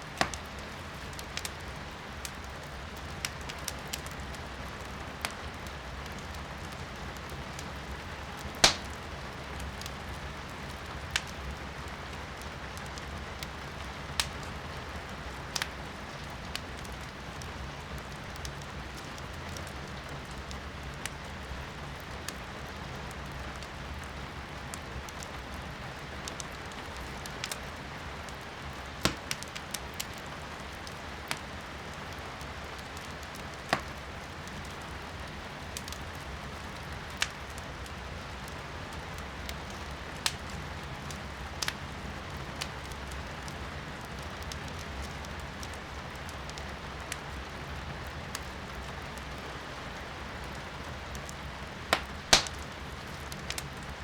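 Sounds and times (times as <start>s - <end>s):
rain heard from indoors: 0.0s - 54.0s
wood fire crackling and popping: 0.0s - 54.0s.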